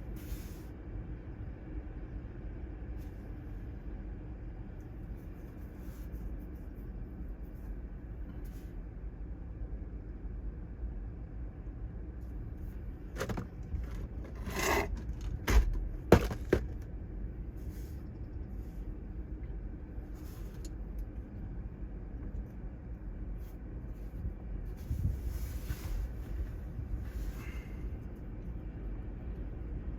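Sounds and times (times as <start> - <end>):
wind: 0.0 - 29.9.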